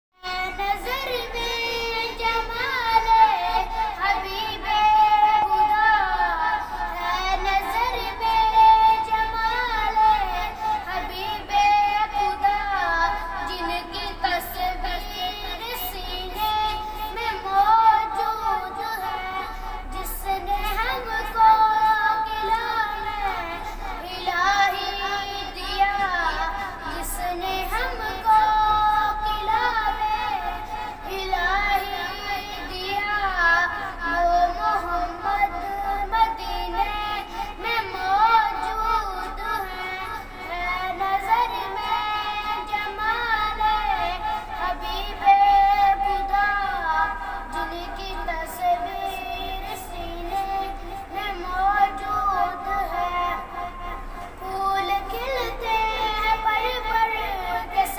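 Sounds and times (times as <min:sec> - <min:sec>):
boy singing devotional song: 0:00.2 - 0:57.9.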